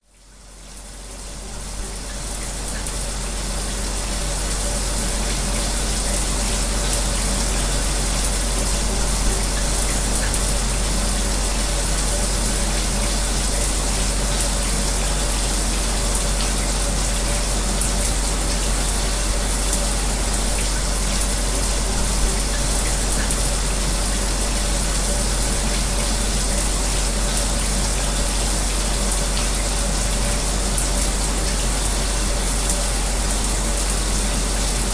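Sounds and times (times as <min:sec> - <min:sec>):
electric fan humming: 0:02.6 - 0:34.9.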